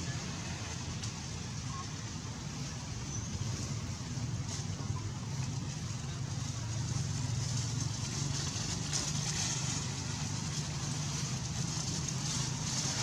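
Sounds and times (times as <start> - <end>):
low traffic rumble with hiss: 0.0 - 13.0.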